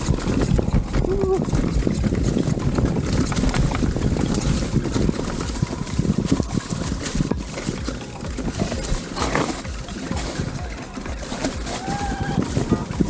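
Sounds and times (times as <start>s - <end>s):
bike rattling over bumps: 0.0s - 13.0s
tyre and wind rumble: 0.0s - 13.0s.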